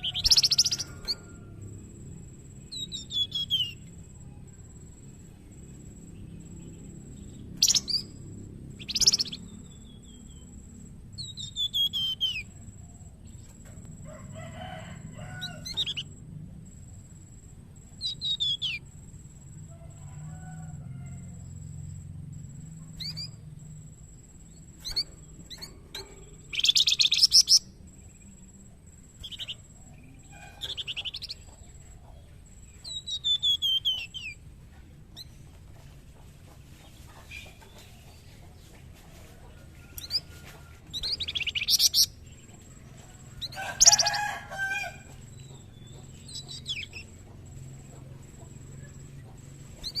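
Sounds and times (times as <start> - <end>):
songbird chirping and trilling: 0.0 - 50.0
steady low hum: 0.0 - 50.0.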